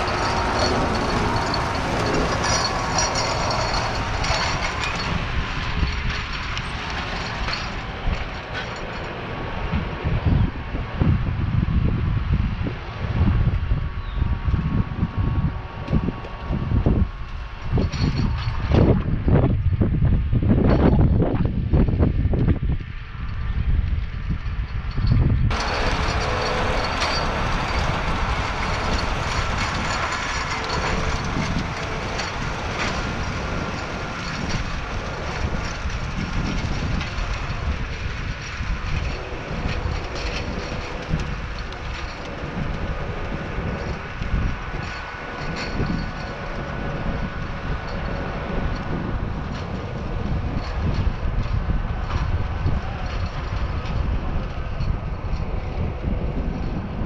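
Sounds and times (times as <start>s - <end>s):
tractor engine drone: 0.0s - 57.0s
wind buffeting microphone: 0.0s - 57.0s.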